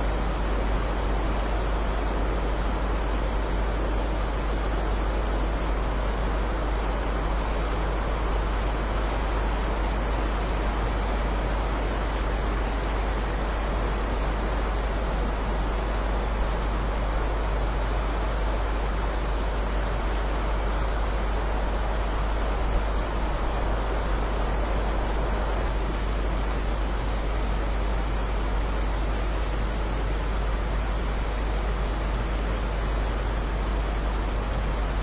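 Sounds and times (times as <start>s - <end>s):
heavy rain hiss: 0.0s - 35.0s.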